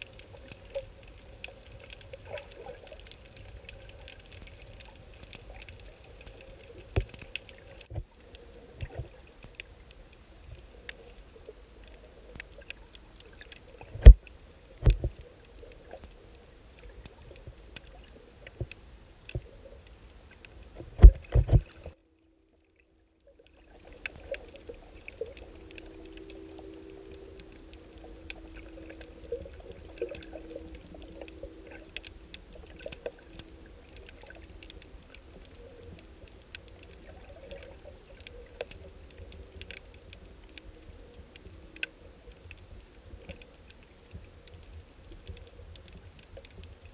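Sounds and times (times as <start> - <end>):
underwater crackling clicks: 0.0 - 22.0, 22.6 - 46.9
faint steady hum: 0.0 - 46.9.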